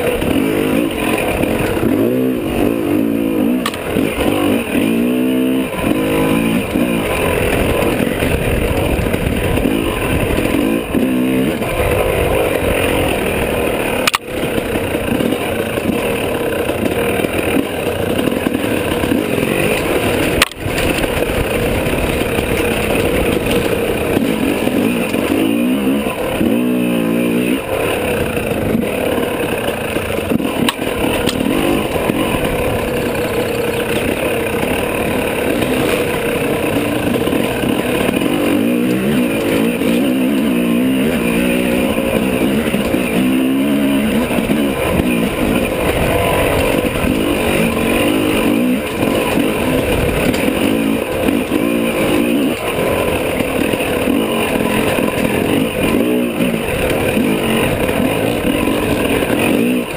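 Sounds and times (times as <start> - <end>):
dirt bike engine revving: 0.0 - 59.9
rattle and rushing noise: 0.0 - 59.9.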